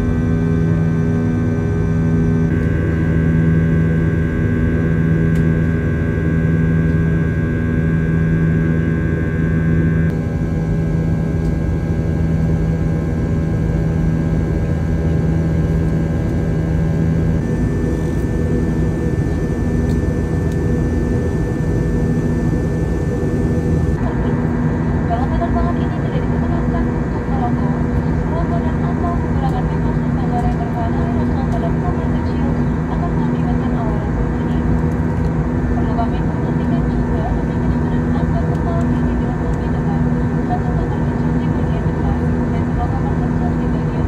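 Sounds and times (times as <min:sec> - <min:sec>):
high engine whine: 0:00.0 - 0:44.0
jet engines droning: 0:00.0 - 0:44.0.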